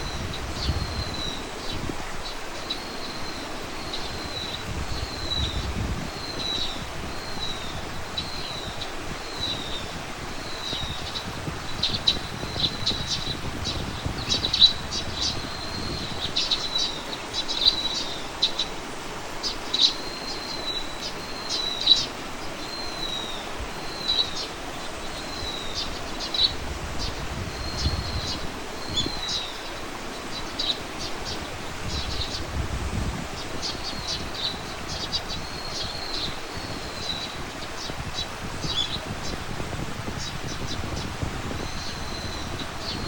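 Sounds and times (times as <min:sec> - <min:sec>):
songbirds chirping and twittering: 0:00.0 - 0:43.0.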